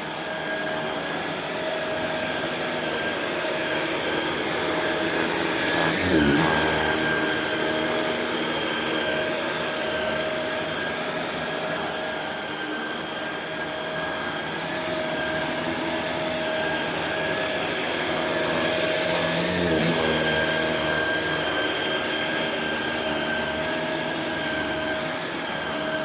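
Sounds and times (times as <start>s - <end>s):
vacuum cleaner running on carpet: 0.0s - 26.0s.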